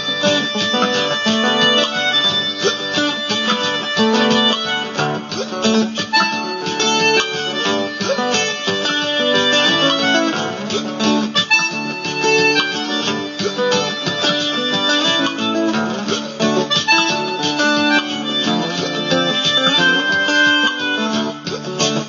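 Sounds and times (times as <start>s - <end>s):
looped music pattern: 0.0s - 22.0s.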